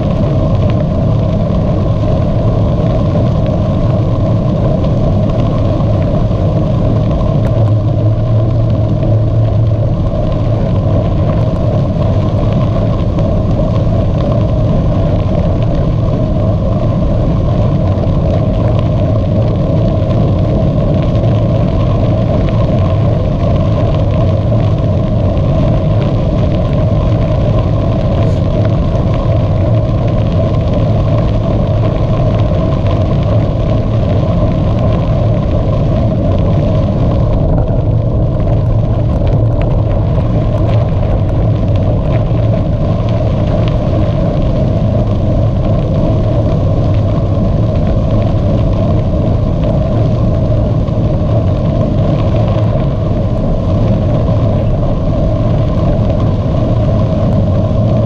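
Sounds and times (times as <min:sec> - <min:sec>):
bicycle tyres rolling: 0:00.0 - 0:58.0
wind buffeting microphone: 0:00.0 - 0:58.0.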